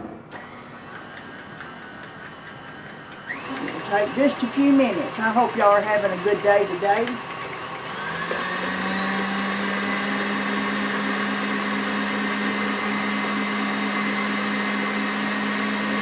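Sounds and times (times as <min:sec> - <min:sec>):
electric mixer motor humming: 0:00.3 - 0:16.0.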